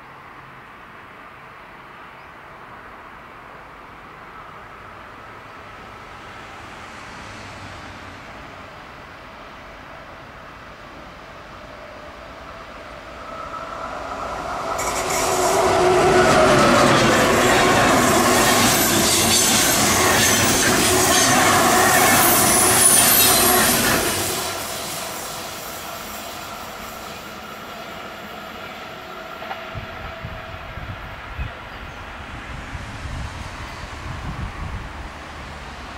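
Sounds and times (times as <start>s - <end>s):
train passing at speed: 0.0s - 35.9s.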